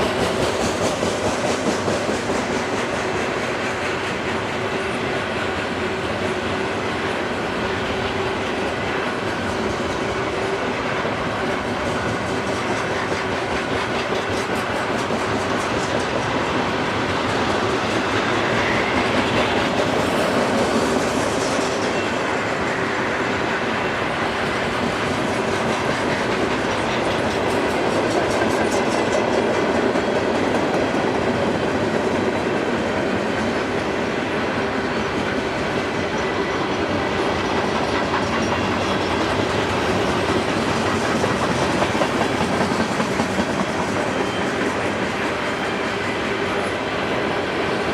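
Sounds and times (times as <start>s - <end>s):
freight train cars rolling: 0.0s - 47.9s.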